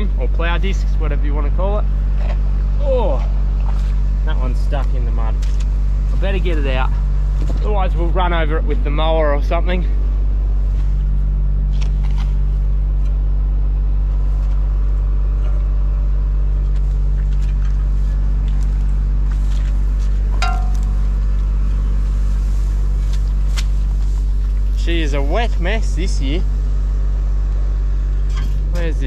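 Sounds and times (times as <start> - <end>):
farm machine engine humming: 0.0 - 29.0.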